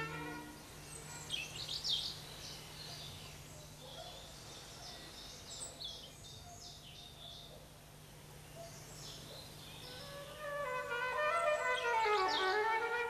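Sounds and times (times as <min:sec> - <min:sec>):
small birds chirping: 0:00.0 - 0:10.5, 0:11.4 - 0:12.9.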